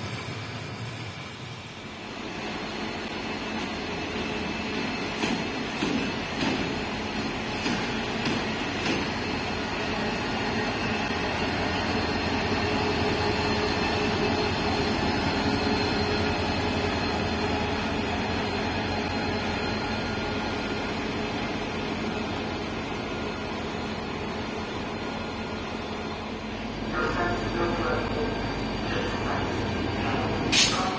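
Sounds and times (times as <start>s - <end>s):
diesel locomotive passing: 0.0s - 30.9s.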